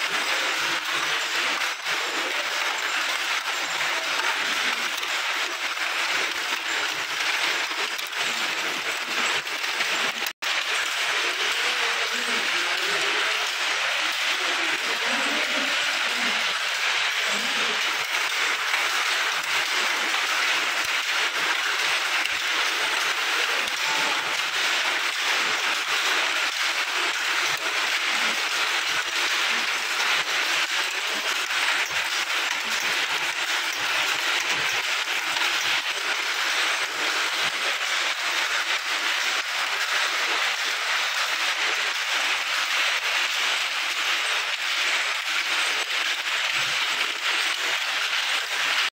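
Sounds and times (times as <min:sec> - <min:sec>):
handlooms clattering: 0:00.0 - 0:48.9.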